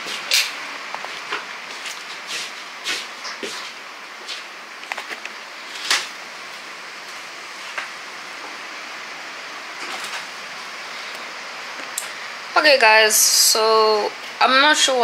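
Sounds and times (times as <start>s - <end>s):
room tone hiss: 0.0s - 15.0s.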